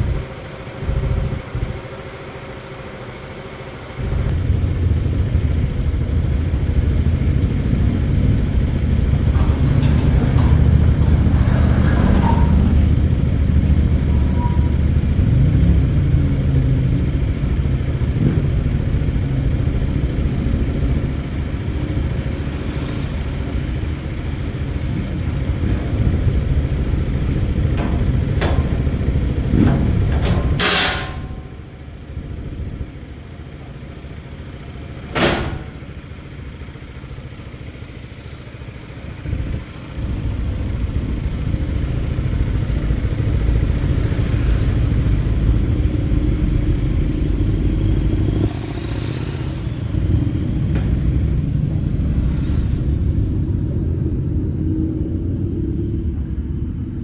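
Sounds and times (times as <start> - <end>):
scooter engine running: 0.0 - 54.6.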